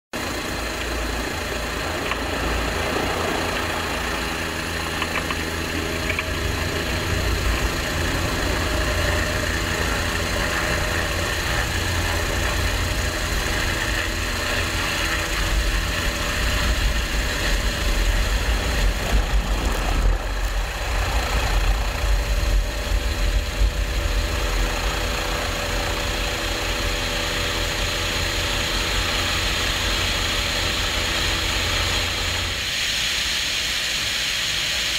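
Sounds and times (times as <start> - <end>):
helicopter engine whine: 0.1 - 34.9
helicopter rotor beating: 0.1 - 34.9.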